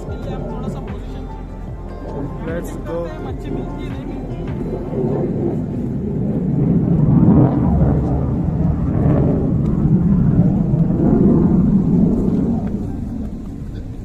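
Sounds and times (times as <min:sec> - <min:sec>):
loud low rumbling: 0:00.0 - 0:14.0.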